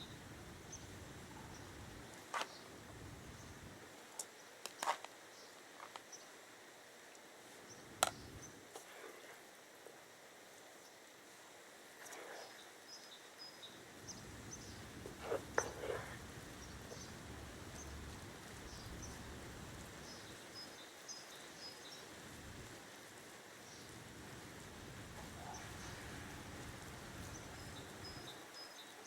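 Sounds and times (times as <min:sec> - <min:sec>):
small birds chirping: 0:00.0 - 0:06.4, 0:07.6 - 0:08.6, 0:12.0 - 0:29.0.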